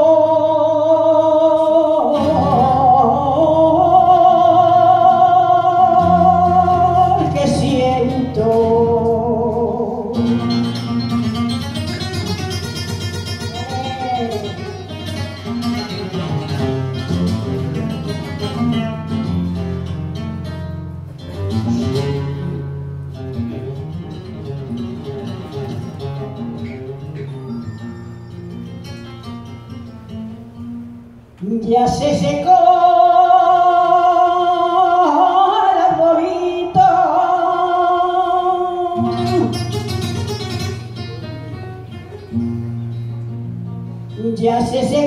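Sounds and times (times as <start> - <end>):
acoustic guitar: 0.0 - 45.0.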